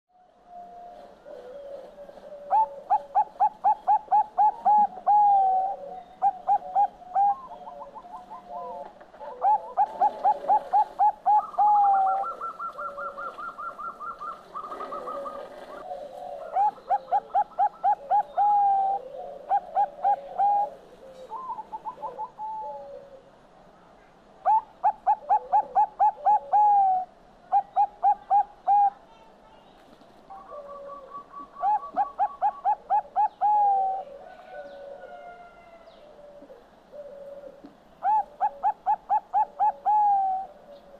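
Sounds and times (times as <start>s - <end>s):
dove cooing: 0.4s - 23.4s, 24.4s - 29.2s, 30.3s - 40.9s.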